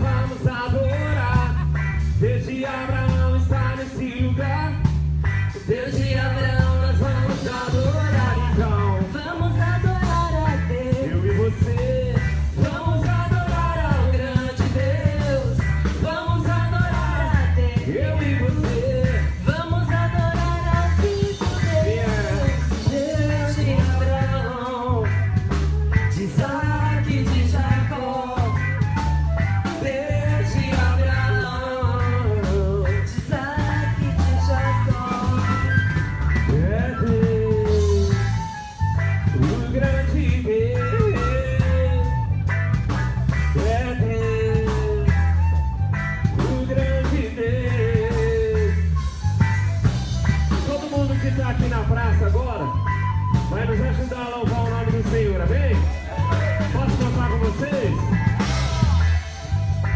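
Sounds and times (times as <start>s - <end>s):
person singing: 0.0s - 59.9s
pulsing bass beat: 0.0s - 59.9s.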